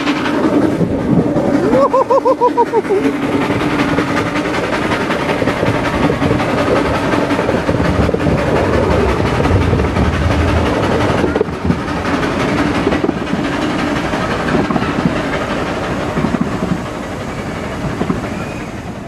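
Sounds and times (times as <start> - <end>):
train wheels clattering on rails: 0.0 - 19.0.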